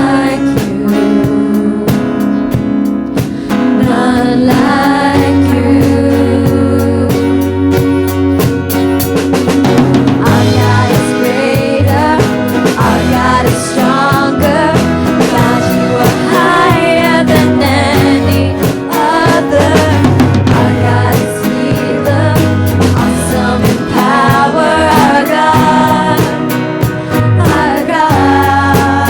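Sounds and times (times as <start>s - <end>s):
drum kit steady beat: 0.0s - 29.0s
low bass notes: 0.0s - 29.0s.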